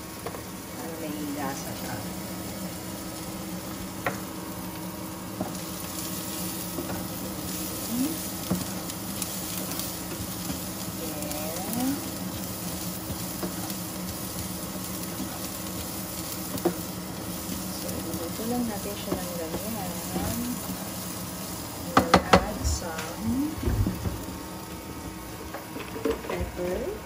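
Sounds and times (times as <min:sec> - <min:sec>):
steady low hum: 0:00.0 - 0:27.0
vegetables sizzling in a frying pan: 0:00.0 - 0:27.0.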